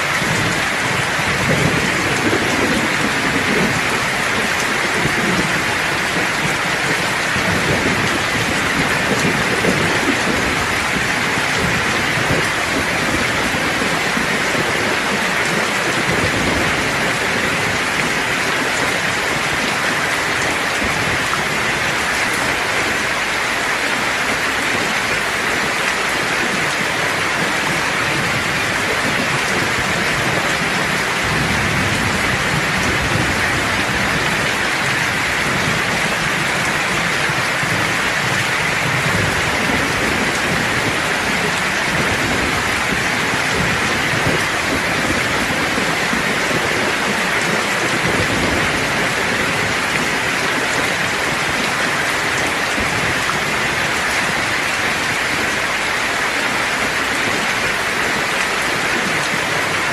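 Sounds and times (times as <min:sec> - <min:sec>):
heavy rain hissing: 0:00.0 - 0:59.9
distant thunder rumble: 0:00.1 - 0:55.8.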